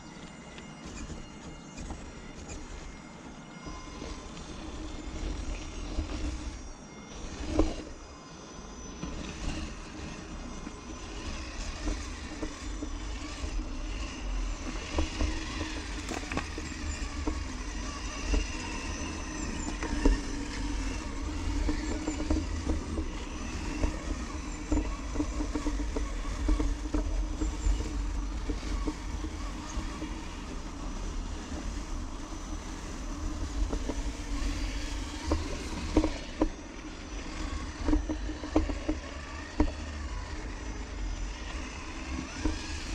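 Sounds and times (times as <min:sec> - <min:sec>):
electric motor whining: 0:00.0 - 0:42.9.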